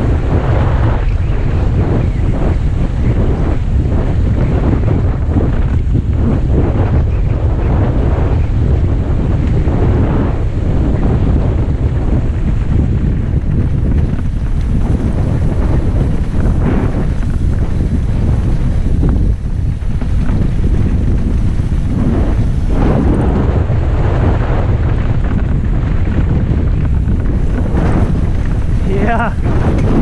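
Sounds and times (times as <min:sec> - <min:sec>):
tyres rumbling on rough trail: 0:00.0 - 0:30.0
wind buffeting microphone: 0:00.0 - 0:30.0.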